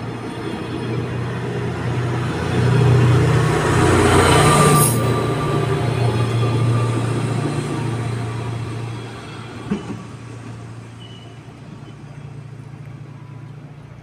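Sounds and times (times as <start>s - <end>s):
train low steady hum: 0.0s - 14.0s.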